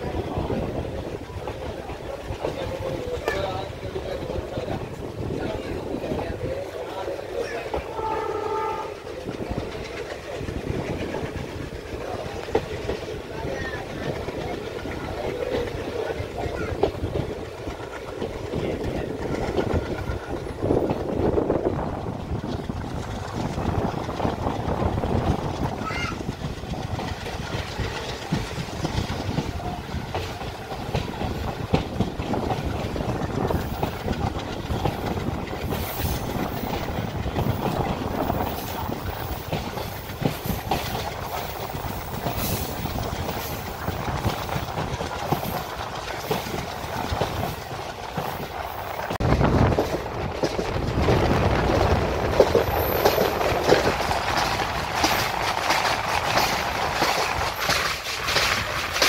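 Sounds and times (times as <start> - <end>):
train rumble: 0.0 - 59.0
wheels clicking over rail joints: 0.0 - 59.0.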